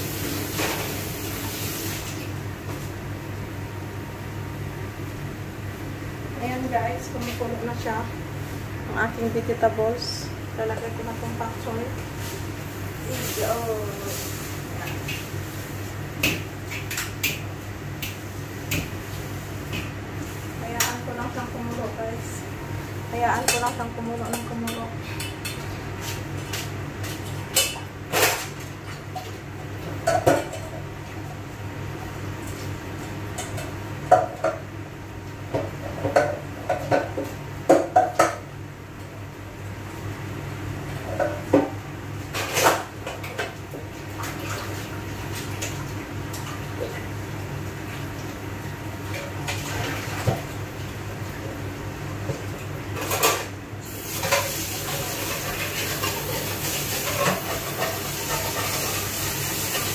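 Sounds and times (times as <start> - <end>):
steady low hum: 2.2 - 53.8.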